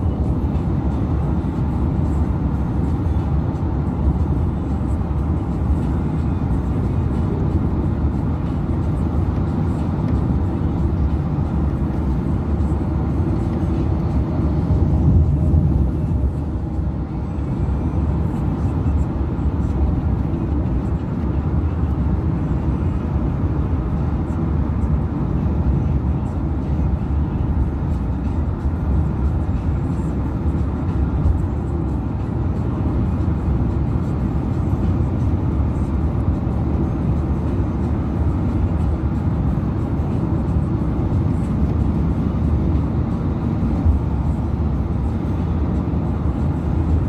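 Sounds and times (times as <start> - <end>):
road and engine rumble in car: 0.0 - 47.0.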